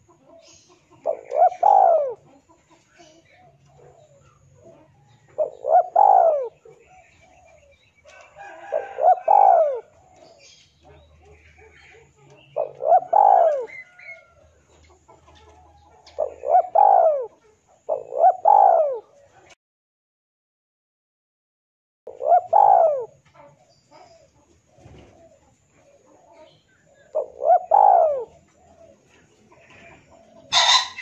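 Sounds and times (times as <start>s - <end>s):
dove cooing: 0.0s - 19.6s, 22.1s - 31.0s.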